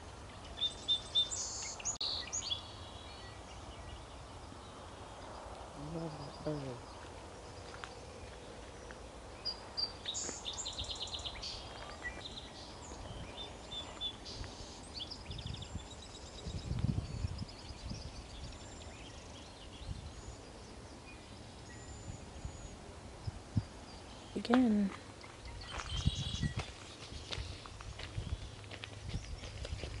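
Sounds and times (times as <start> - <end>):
outdoor background noise: 0.0 - 30.0
songbirds chirping and trilling: 0.0 - 30.0.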